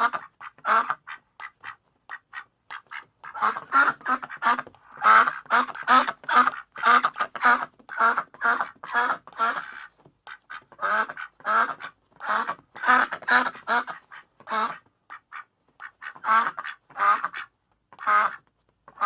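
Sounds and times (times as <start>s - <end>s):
duck quacking: 0.0s - 19.0s.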